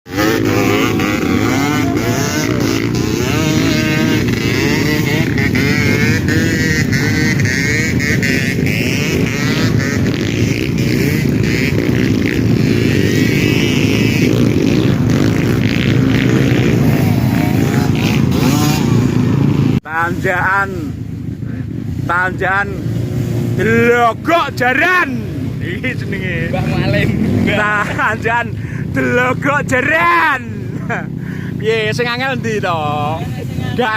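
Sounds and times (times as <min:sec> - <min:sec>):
dirt bike engines revving: 0:00.1 - 0:33.9.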